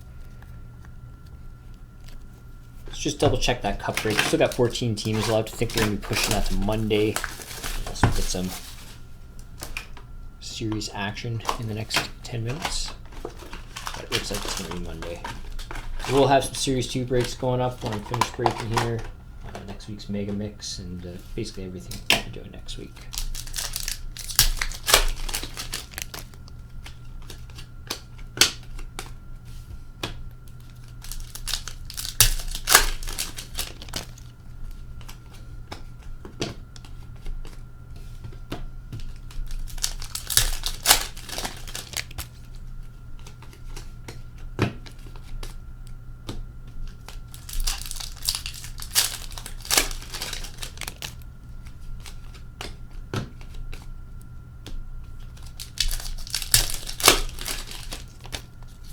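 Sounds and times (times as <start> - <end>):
faint steady hum: 0.0 - 58.9
cards clicking: 0.2 - 29.1, 30.0 - 34.3, 38.2 - 42.5, 46.2 - 53.9, 54.6 - 58.9
wrappers crinkling and tearing: 1.7 - 29.2, 30.5 - 36.2, 39.0 - 43.9, 46.8 - 52.6, 55.0 - 58.9.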